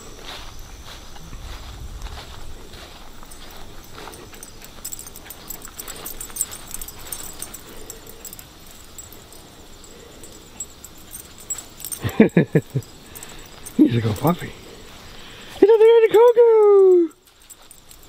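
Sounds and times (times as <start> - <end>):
footsteps rustling through grass: 0.0 - 18.0.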